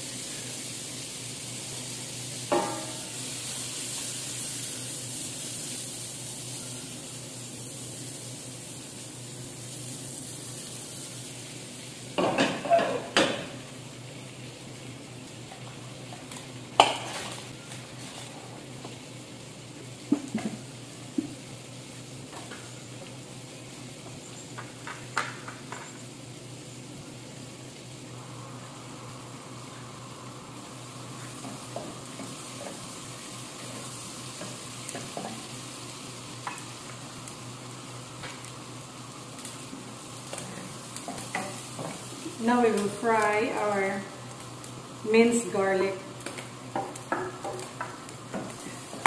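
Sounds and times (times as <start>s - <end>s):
butter sizzling in a wok: 0.0s - 49.0s.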